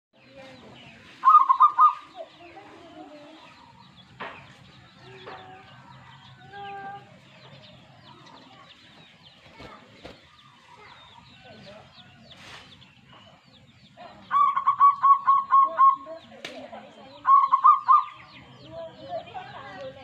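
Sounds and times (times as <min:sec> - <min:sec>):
dove singing: 0:00.2 - 0:20.0
small birds chirping: 0:00.2 - 0:20.0.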